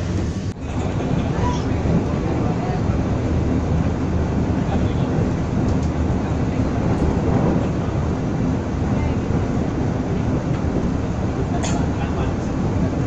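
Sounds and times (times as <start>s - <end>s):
train running noise from inside: 0.0s - 13.0s.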